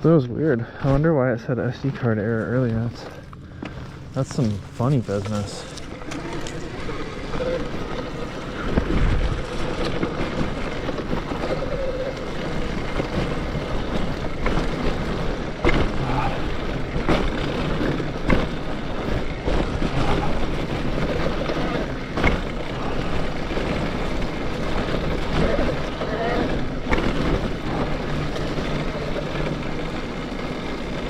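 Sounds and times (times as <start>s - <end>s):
bike tyres rumbling: 0.0s - 31.0s
bike knocking over bumps: 3.1s - 31.0s
wind buffeting microphone: 4.0s - 31.0s.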